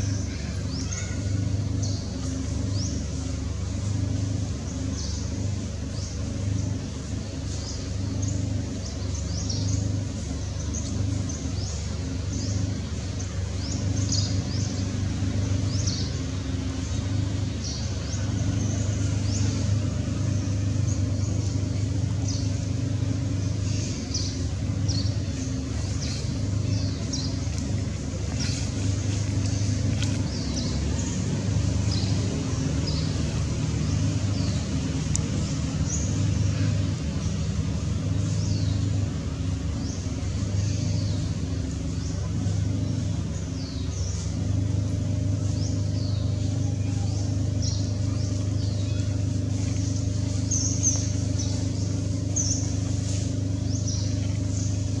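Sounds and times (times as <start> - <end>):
low engine-like rumble: 0.0 - 55.0.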